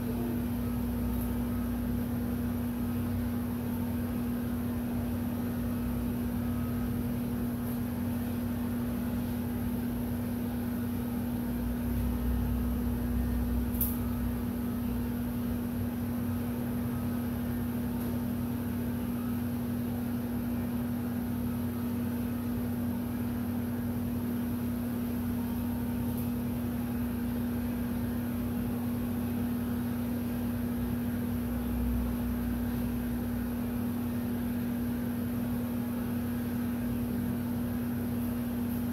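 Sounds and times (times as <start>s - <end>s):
heat gun fan hum: 0.0s - 38.9s.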